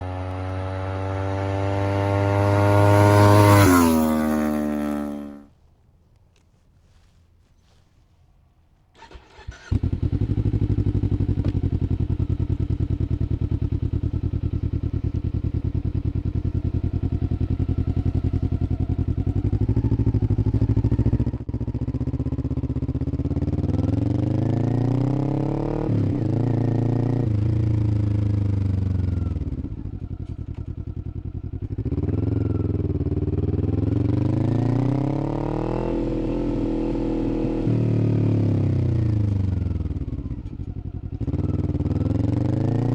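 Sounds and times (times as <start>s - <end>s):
motorcycle accelerating and shifting gears: 0.0s - 5.5s, 9.0s - 42.9s
motorcycle engine starting: 0.0s - 5.5s, 8.8s - 42.9s.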